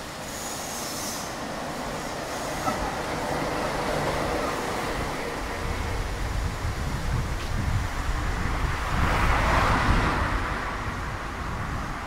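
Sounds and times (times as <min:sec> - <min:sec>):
bus driving past: 0:00.0 - 0:12.0
street traffic: 0:00.0 - 0:12.0.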